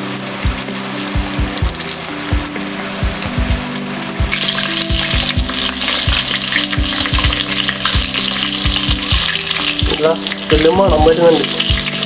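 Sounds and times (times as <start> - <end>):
chicken deep-frying in hot oil: 0.0 - 12.0.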